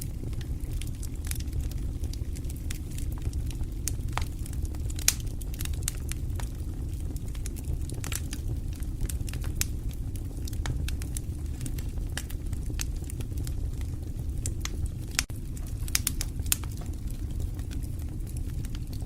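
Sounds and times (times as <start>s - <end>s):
fire crackling and popping: 0.0s - 19.0s
low steady rumble: 0.0s - 19.0s.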